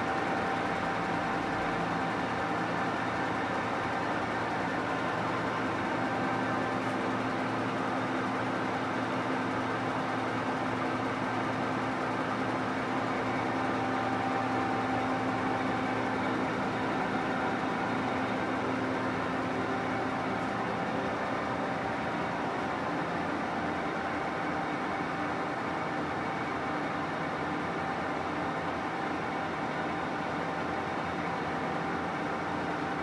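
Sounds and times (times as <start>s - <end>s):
machinery hum: 0.0s - 33.0s.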